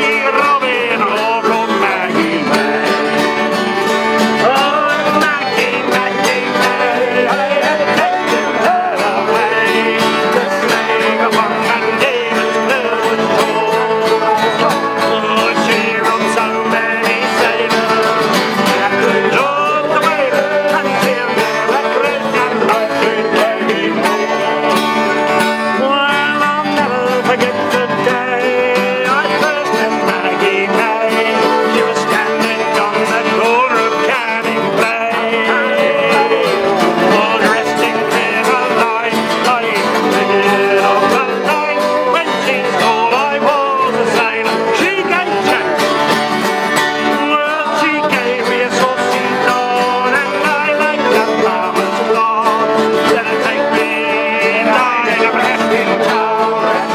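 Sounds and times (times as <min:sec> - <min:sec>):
button accordion: 0:00.0 - 0:56.9
mandolin: 0:00.0 - 0:56.9
men singing a sea shanty: 0:00.0 - 0:56.9
strummed acoustic guitars: 0:00.0 - 0:56.9.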